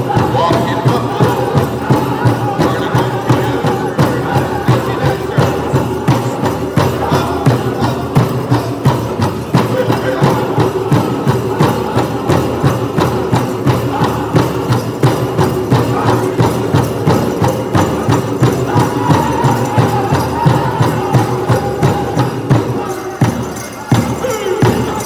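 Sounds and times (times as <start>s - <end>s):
group chanting song: 0.0s - 25.0s
large drum steady beat: 0.0s - 25.0s.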